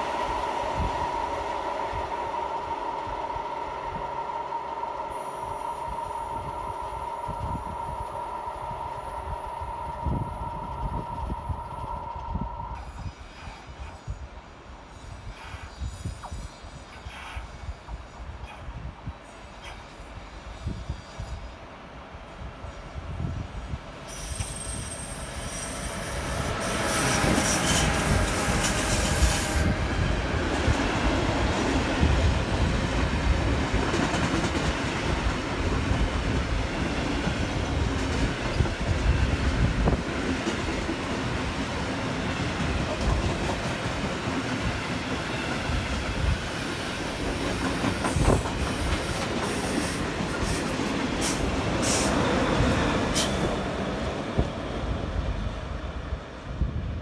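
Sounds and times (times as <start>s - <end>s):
train wheels squealing on rails: 0.0s - 32.7s, 33.8s - 56.1s
rumble of wheels on rails: 0.0s - 57.0s.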